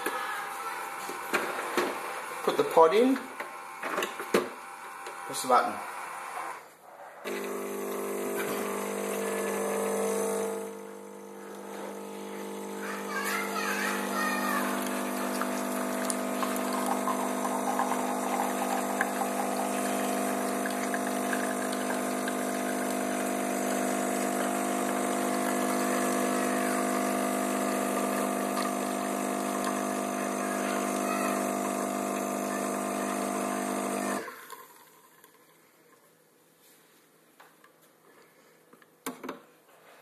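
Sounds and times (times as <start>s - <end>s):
coffee machine pump humming: 0.5s - 6.6s, 7.3s - 35.5s.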